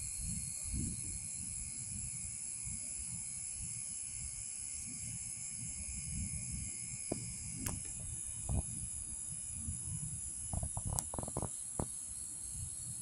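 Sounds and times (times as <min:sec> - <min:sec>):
wind rumbling on microphone: 0:00.0 - 0:02.8, 0:04.9 - 0:13.0
high hiss: 0:00.0 - 0:13.0.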